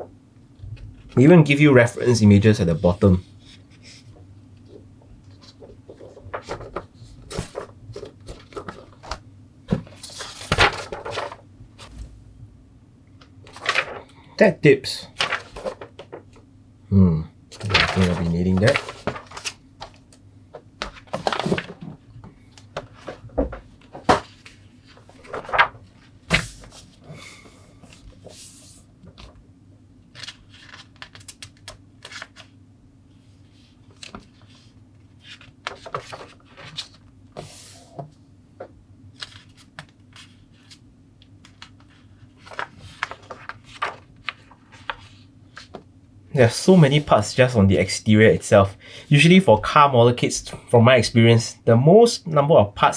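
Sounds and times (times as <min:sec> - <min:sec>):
faint low hum: 0:00.0 - 0:52.4.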